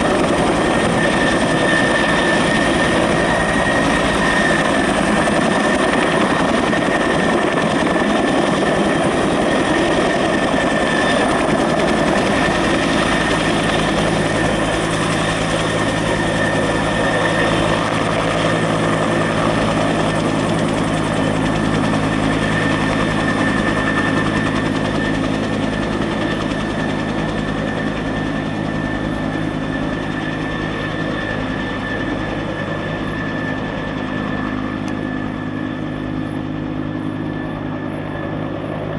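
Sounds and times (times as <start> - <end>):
helicopter flying past: 0.0 - 38.9.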